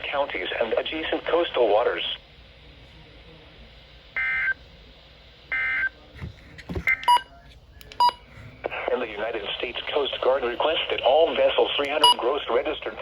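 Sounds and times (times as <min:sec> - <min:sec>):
faint radio broadcast hiss: 0:00.0 - 0:13.0.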